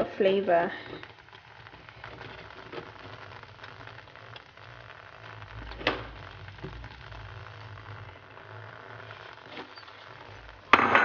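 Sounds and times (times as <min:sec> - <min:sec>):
sauce simmering in a pan: 0:00.0 - 0:11.0.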